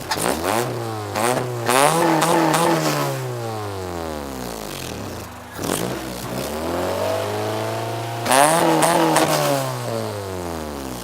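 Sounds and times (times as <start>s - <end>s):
car engine revving: 0.0s - 11.0s
exhaust pops: 0.0s - 11.0s.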